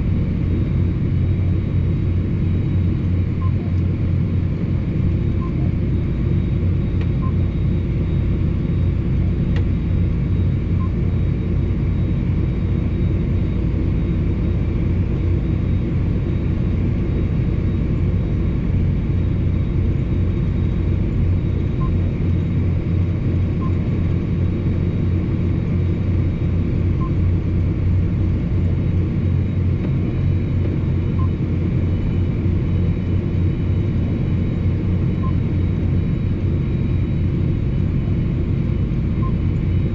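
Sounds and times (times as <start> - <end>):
tractor engine droning in cab: 0.1 - 39.9.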